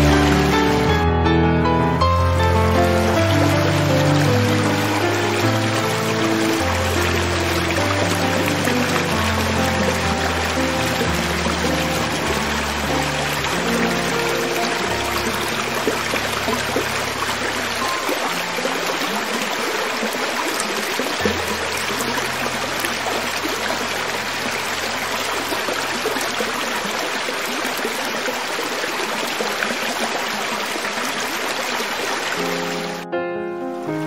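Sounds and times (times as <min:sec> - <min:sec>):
creek water flowing over rocks: 0:00.0 - 0:01.0, 0:02.0 - 0:33.1.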